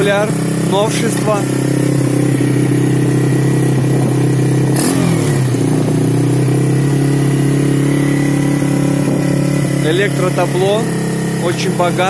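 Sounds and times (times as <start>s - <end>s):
quad bike engine idling: 0.0s - 12.0s.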